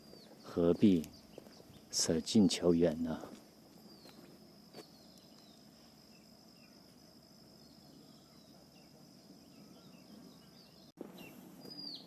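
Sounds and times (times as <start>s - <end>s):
bird chirps: 0.0s - 2.5s, 3.7s - 12.0s
insect trill: 0.0s - 12.0s.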